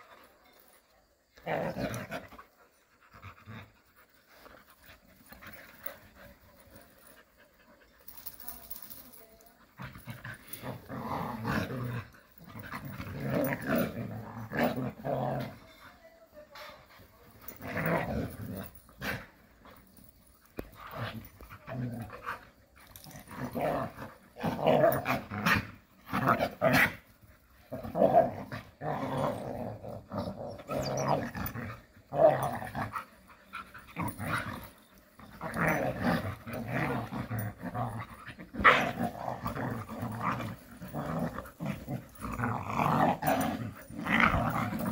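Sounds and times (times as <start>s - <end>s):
dogs growling: 0.0s - 15.9s, 16.8s - 44.9s.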